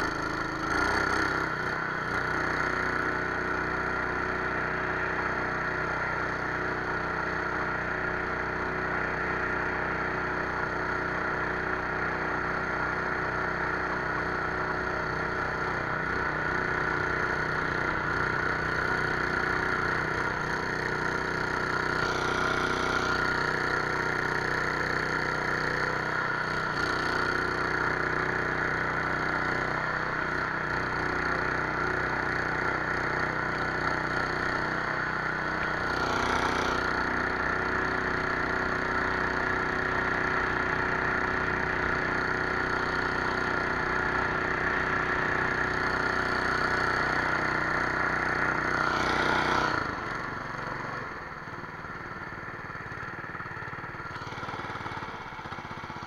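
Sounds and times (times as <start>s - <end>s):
boat motor running: 0.0s - 56.0s.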